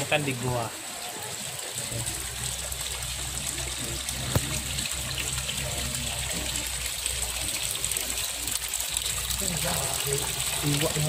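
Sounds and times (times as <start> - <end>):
water trickling into pond: 0.0 - 11.0.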